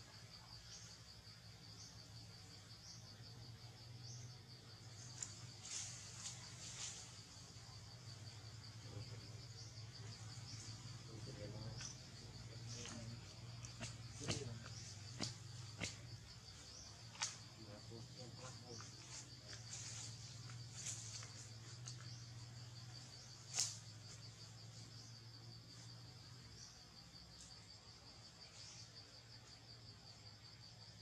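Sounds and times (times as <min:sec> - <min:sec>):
insect chirping: 0:00.0 - 0:31.0.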